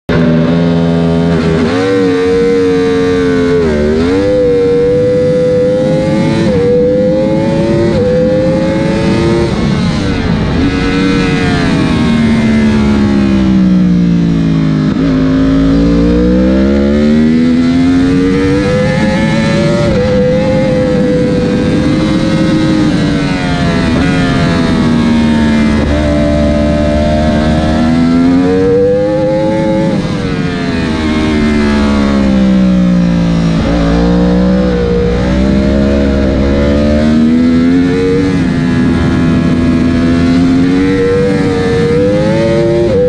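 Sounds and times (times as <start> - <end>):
motorcycle engine revving: 0.1 - 43.0
wind rush: 1.1 - 43.0.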